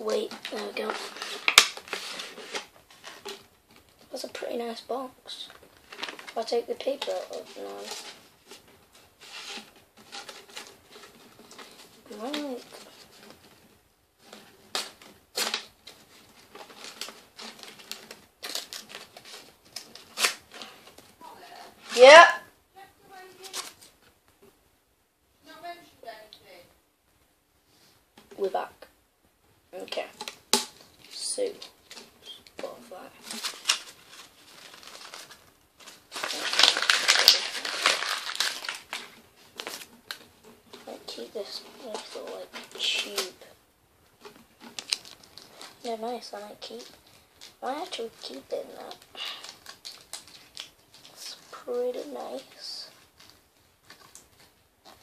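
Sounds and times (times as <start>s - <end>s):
packaging crumpling and rustling: 0.0s - 4.1s, 5.4s - 21.2s, 29.9s - 43.5s, 44.1s - 55.0s.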